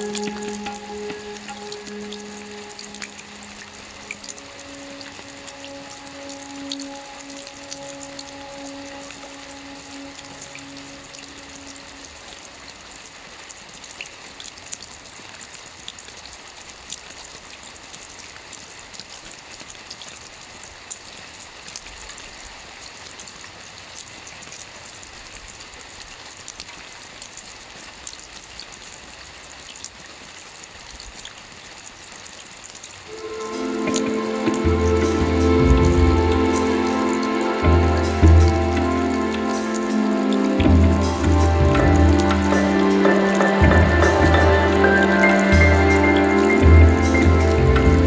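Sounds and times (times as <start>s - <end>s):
raindrops ticking on a surface: 0.0s - 48.0s
steady rain: 0.0s - 48.0s.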